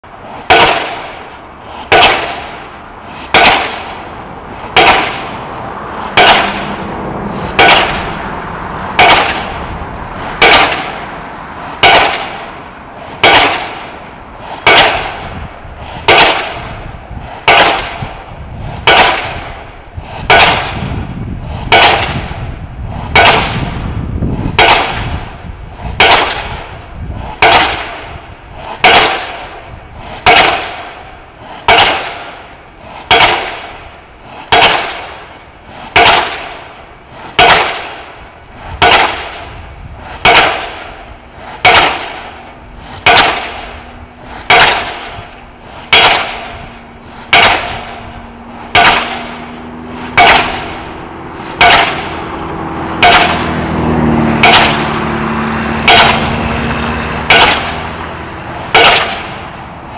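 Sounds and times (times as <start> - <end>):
pile driver hammer banging: 0.4 - 59.9.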